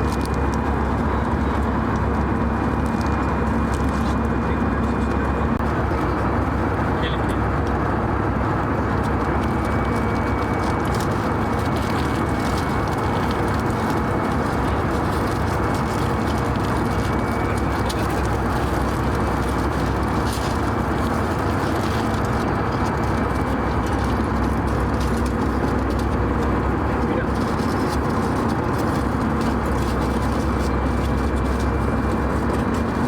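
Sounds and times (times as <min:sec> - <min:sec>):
airliner cabin engine rush: 0:00.0 - 0:33.0
faint steady whine: 0:00.0 - 0:33.0.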